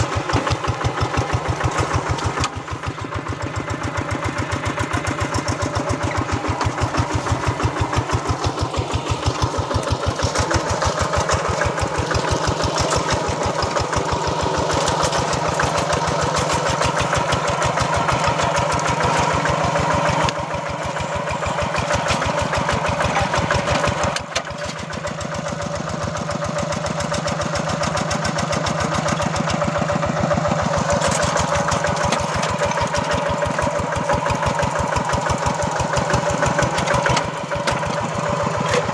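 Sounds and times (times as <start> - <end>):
hand tractor diesel engine running: 0.0 - 38.9.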